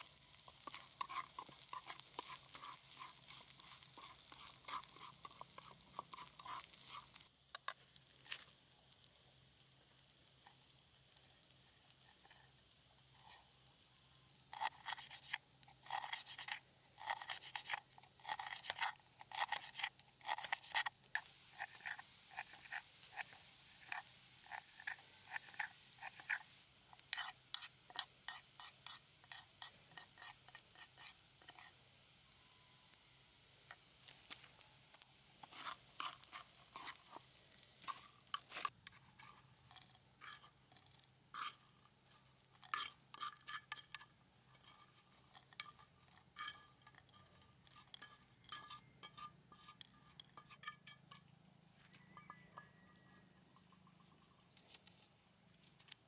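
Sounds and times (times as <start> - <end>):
utensil scraping in frying pan: 0.0 - 51.4, 52.0 - 54.8
sizzling hiss: 0.0 - 56.0.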